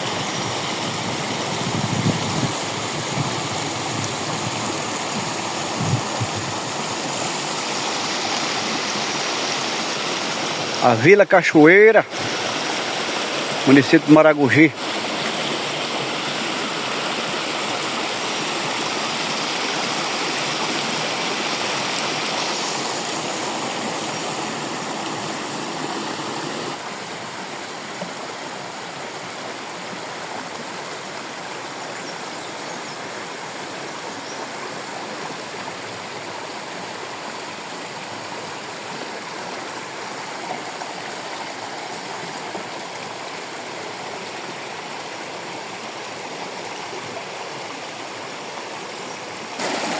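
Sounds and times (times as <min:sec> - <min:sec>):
water rushing at small waterfall: 0:00.0 - 0:49.9.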